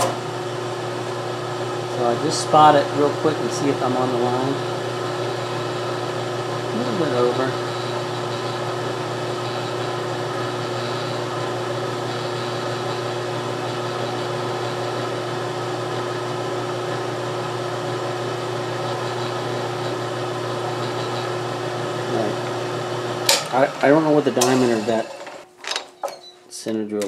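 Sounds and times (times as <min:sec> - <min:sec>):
milling machine motor humming: 0:00.0 - 0:25.5
drill cutting brass: 0:01.2 - 0:16.1, 0:18.2 - 0:25.5.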